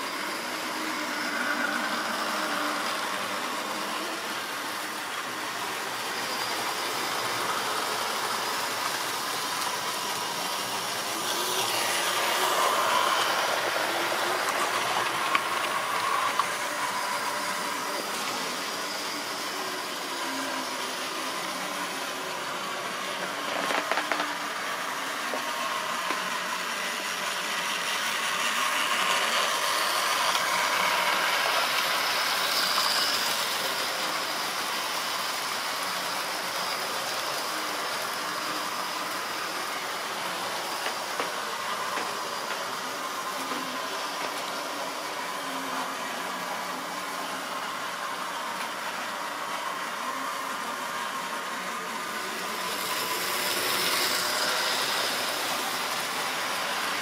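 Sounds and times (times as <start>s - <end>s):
model locomotive motors whirring: 0.0s - 57.0s.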